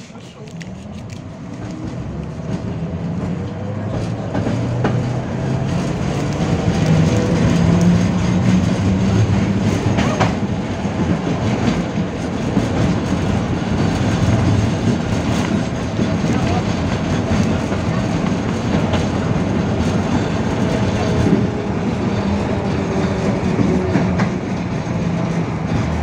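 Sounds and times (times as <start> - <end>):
wheels rumbling on rails: 0.0 - 26.0
tram motor whine: 1.2 - 26.0.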